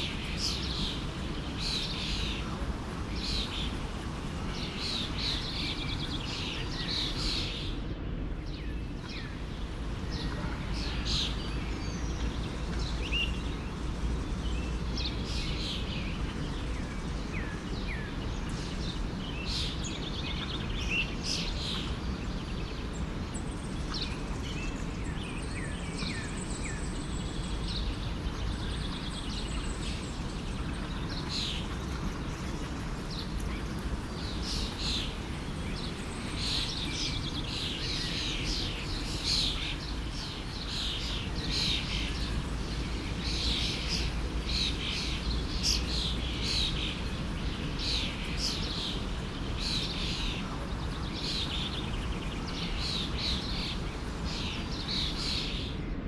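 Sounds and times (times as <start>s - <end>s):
stream flowing: 0.0s - 7.2s, 9.3s - 25.2s, 27.1s - 55.3s
songbirds chirping: 0.0s - 56.0s.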